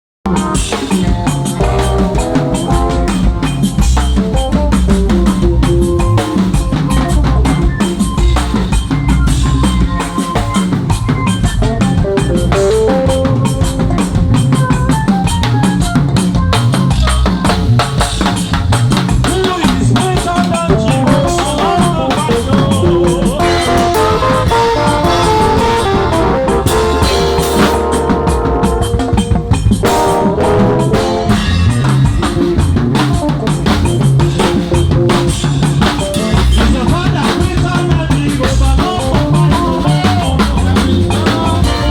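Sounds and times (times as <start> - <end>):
drum kit fills: 0.3 - 41.9
melodic music with bass and keys: 0.3 - 41.9.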